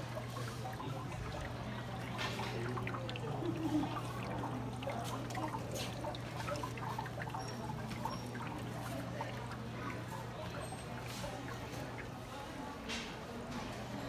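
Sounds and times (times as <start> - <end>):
water dripping on glass: 0.0 - 13.1.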